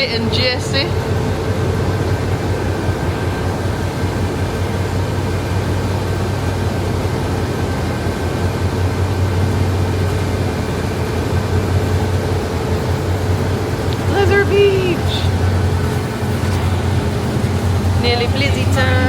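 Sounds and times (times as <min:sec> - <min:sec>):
bus engine and road noise: 0:00.0 - 0:19.0
faint steady tones: 0:00.0 - 0:19.0.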